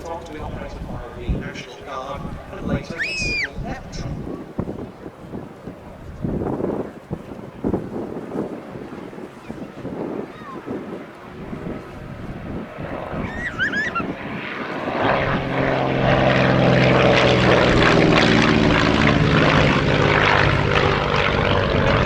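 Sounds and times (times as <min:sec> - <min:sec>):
propeller plane droning past: 0:00.0 - 0:22.0.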